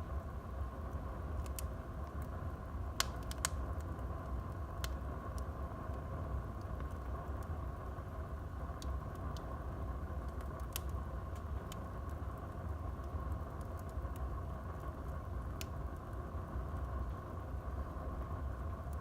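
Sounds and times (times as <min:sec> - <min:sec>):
fire crackles and pops: 0:00.0 - 0:19.0
low rumble of flame: 0:00.0 - 0:19.0.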